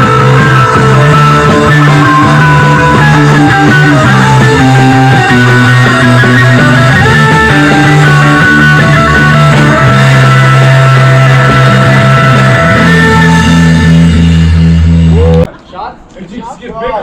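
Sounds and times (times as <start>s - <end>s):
loud rock music with guitar: 0.0s - 15.5s.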